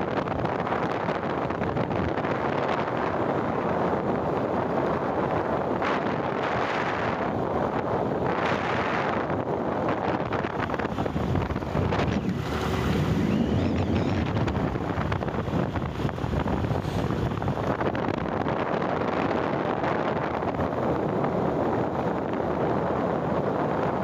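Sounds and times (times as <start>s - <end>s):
road and riding noise: 0.0s - 24.0s
wind buffeting microphone: 0.0s - 24.0s.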